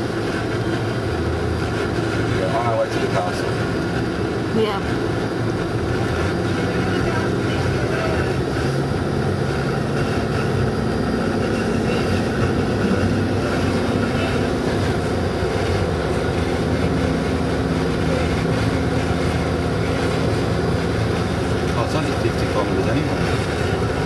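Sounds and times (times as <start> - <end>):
car engine hum: 0.0 - 24.0
road rumble: 0.0 - 24.0.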